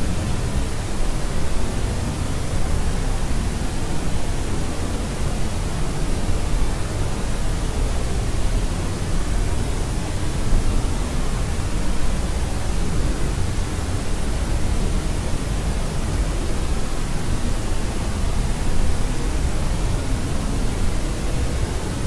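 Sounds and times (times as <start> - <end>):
steady rumbling hiss: 0.0 - 22.0.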